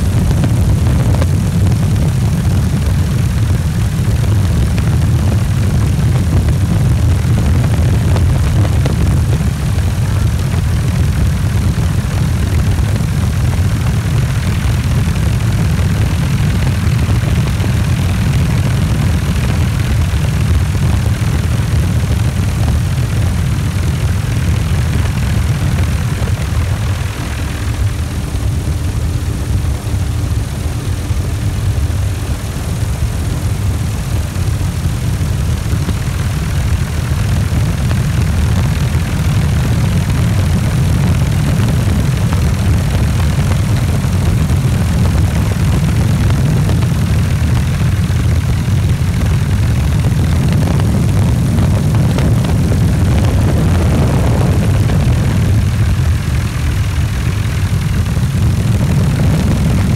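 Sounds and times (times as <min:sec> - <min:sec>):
helicopter rotor and engine rumble: 0:00.0 - 0:59.9.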